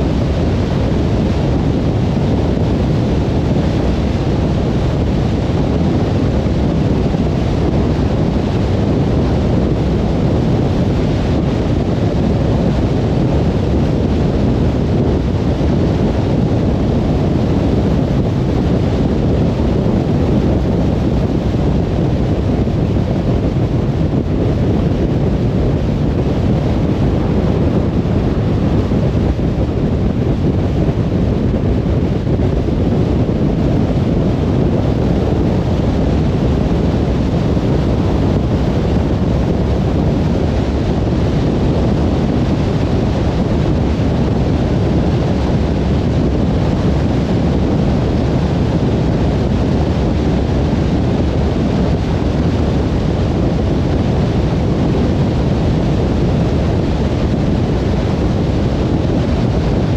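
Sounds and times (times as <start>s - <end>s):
car tyre and wind rumble: 0.0s - 59.9s.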